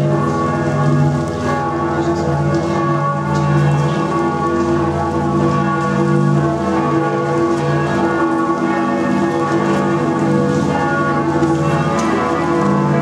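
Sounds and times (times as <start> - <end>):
large church bells pealing: 0.0 - 13.0.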